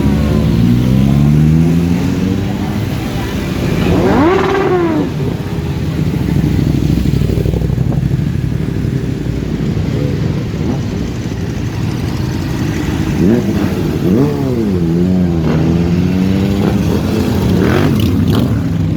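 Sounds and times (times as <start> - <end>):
motorcycle engines running: 0.0 - 18.9
motorcycle revving: 0.0 - 18.9.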